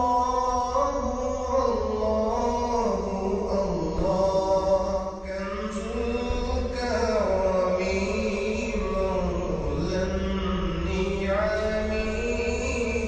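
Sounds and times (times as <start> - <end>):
devotional chant: 0.0 - 13.0.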